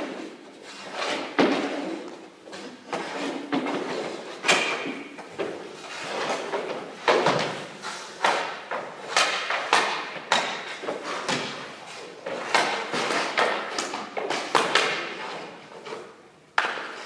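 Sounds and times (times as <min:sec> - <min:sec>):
pucks knocking in echoing rink: 0:00.0 - 0:17.0.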